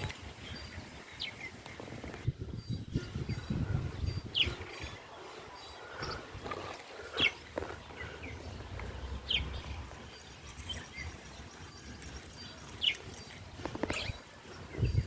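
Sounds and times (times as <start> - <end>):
chickens chirping: 0.0 - 15.0.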